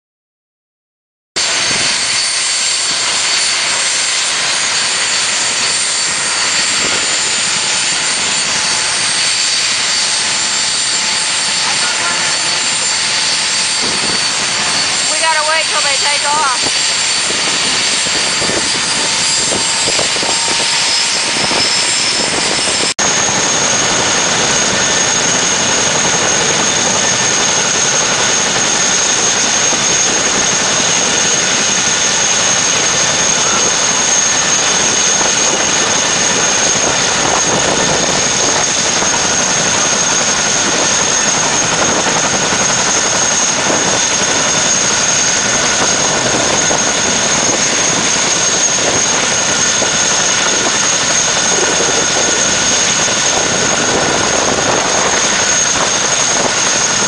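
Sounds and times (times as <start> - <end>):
helicopter turbine whine: 1.4 - 57.0
rotor rushing noise: 1.4 - 57.0.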